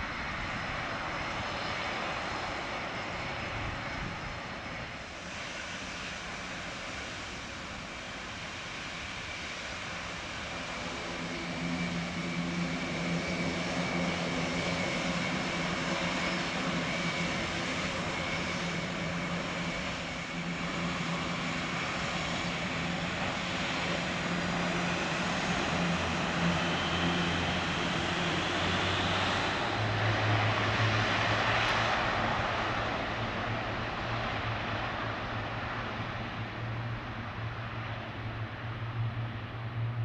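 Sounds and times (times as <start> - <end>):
turboprop engines droning: 0.0 - 40.0.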